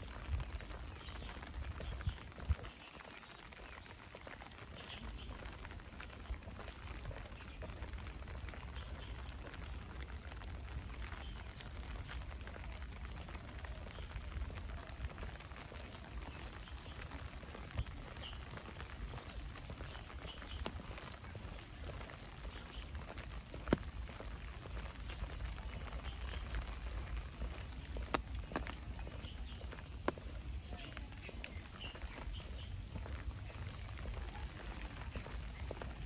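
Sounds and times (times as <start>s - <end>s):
rain falling on ground: 0.0s - 36.0s.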